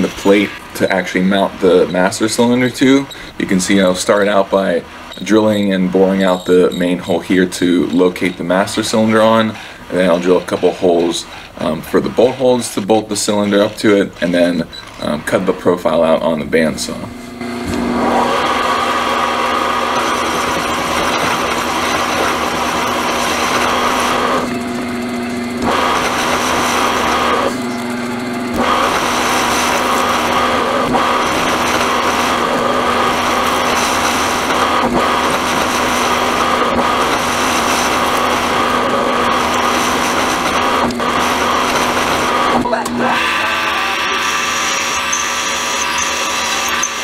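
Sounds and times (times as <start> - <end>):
harsh metal cutting noise: 0.0 - 47.0
milling machine motor hum: 0.0 - 47.0.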